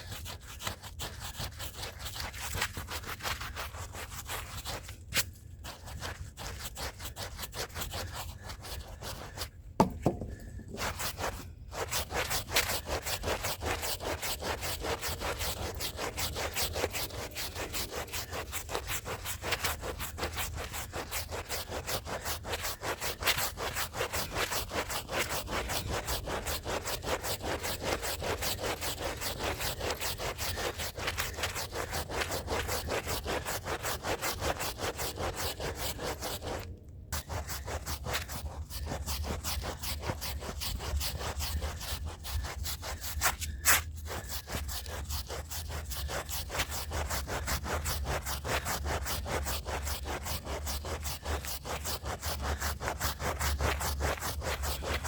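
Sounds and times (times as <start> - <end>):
brush scrubbing a rug: 0.0 - 55.0.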